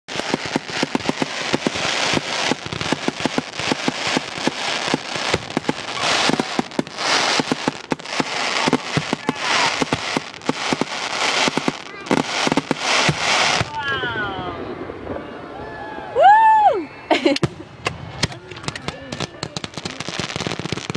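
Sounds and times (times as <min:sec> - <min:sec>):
fireworks fountains hissing: 0:00.0 - 0:20.9
fireworks bangs: 0:00.1 - 0:16.4, 0:17.1 - 0:20.9.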